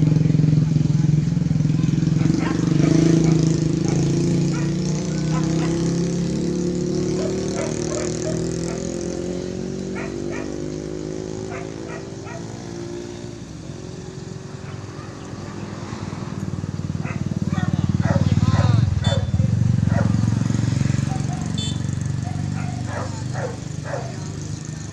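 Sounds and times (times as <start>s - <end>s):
dogs barking and yelping: 2.0s - 13.2s, 14.3s - 16.0s, 16.9s - 24.9s
small engine running: 2.1s - 24.9s.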